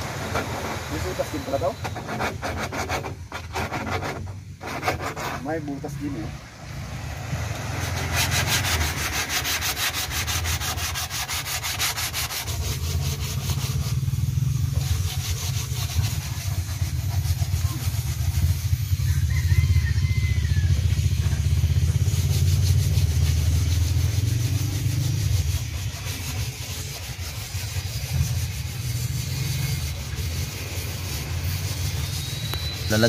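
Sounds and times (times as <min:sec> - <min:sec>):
sandpaper rubbing: 0:00.0 - 0:06.2, 0:07.6 - 0:20.0, 0:20.7 - 0:33.0.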